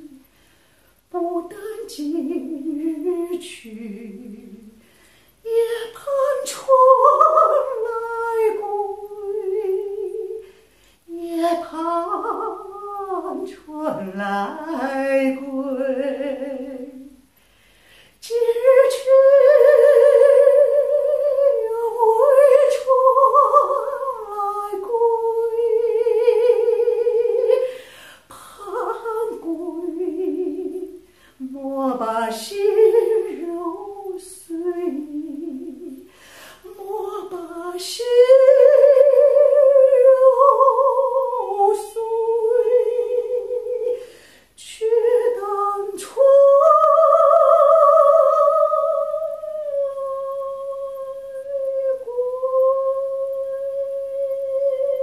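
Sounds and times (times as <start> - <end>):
woman singing wordless melody: 0.0 - 17.3, 18.2 - 55.0.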